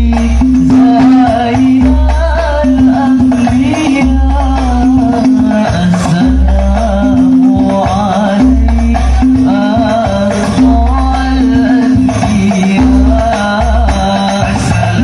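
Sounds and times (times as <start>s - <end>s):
frame drums: 0.0s - 15.0s.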